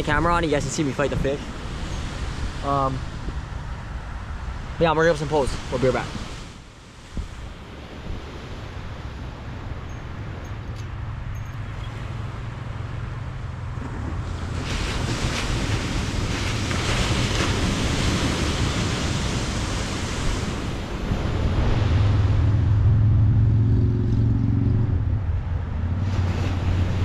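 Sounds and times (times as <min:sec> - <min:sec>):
ocean surf on shore: 0:00.0 - 0:27.0
wind rumbling on microphone: 0:00.0 - 0:27.0.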